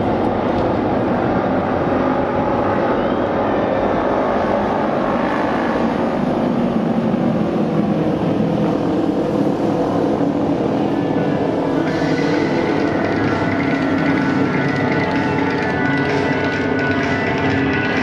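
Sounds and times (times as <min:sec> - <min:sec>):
racing motorcycle engines drone: 0:00.0 - 0:18.0.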